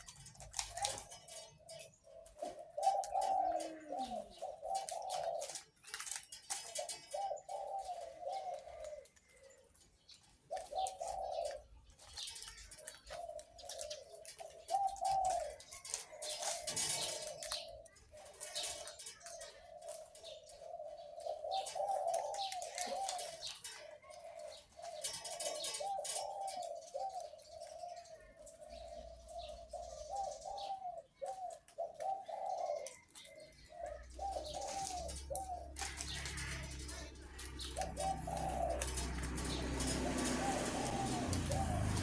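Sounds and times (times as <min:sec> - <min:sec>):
dove cooing: 0:00.0 - 0:42.0
small birds chirping: 0:00.0 - 0:42.0.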